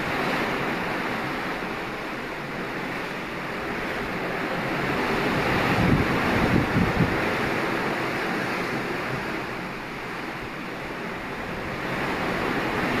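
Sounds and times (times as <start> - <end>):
sea breaking along hull: 0.0 - 13.0
wind buffeting microphone: 0.0 - 13.0.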